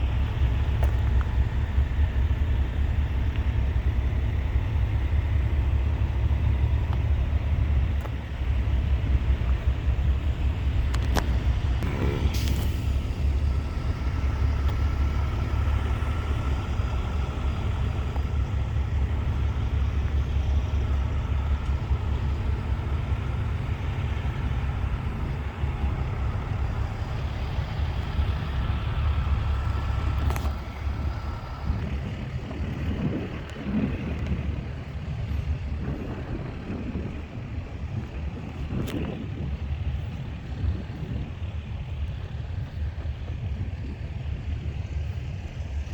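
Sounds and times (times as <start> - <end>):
truck engine rumbling: 0.0 - 45.9.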